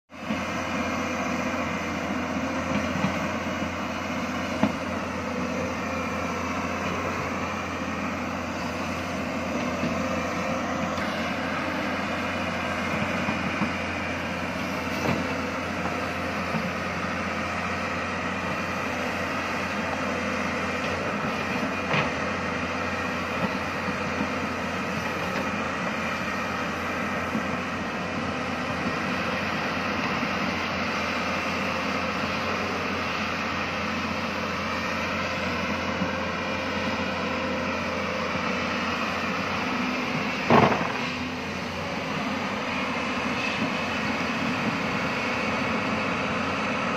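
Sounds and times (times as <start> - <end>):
excavator diesel engine running: 0.1 - 46.9.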